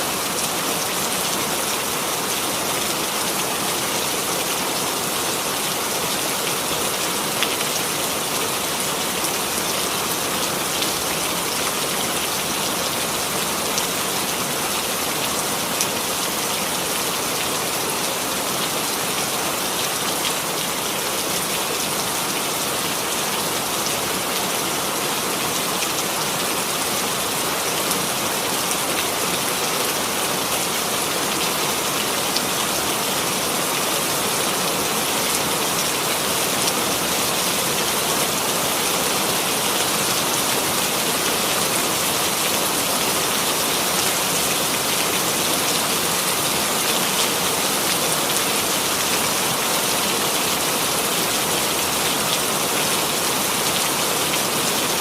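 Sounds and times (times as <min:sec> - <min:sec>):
rain pattering on a surface: 0:00.1 - 0:55.0.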